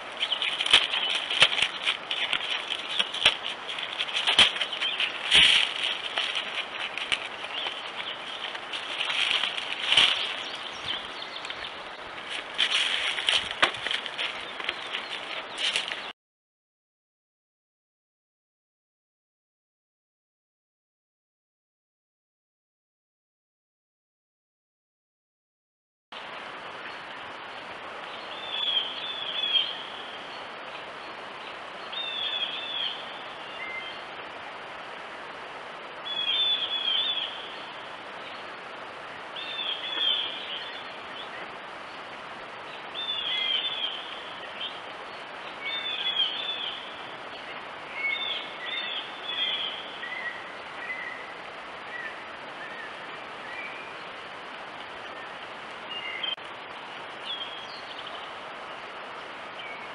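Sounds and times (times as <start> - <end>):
steady hiss: 0.0 - 16.1, 26.2 - 59.9.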